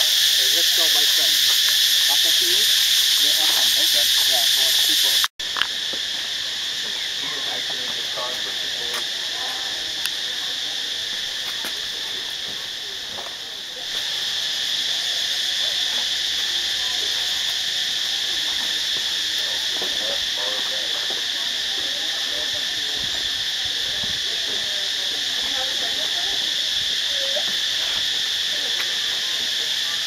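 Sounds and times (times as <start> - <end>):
insects droning chorus: 0.0 - 30.0.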